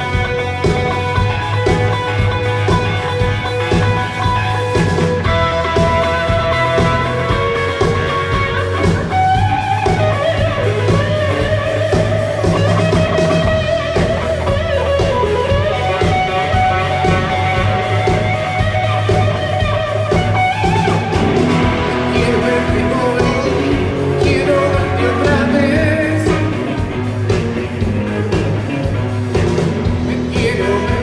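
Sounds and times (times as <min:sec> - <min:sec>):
electric guitar bending notes: 0:00.0 - 0:31.0
rock band playing: 0:00.0 - 0:31.0.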